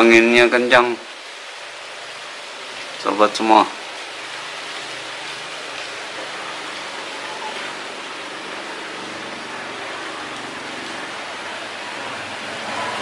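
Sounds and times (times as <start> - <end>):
strong wind through tree foliage: 0.0 - 13.0.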